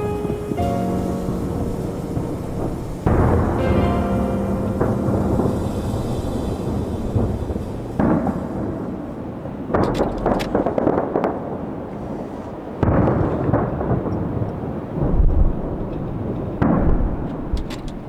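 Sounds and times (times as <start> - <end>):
firework bursts booming: 0.0 - 18.0
fireworks crackling: 0.0 - 18.0.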